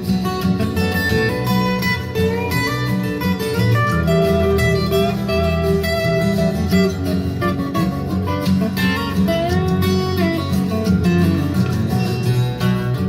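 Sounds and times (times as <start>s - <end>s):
bass line: 0.0s - 13.0s
strummed acoustic guitar: 0.0s - 13.0s.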